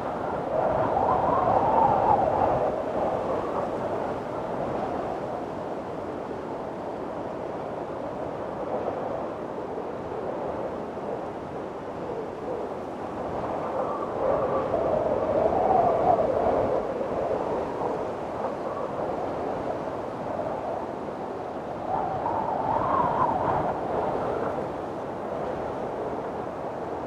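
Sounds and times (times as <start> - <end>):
strong wind gusting: 0.0 - 27.0.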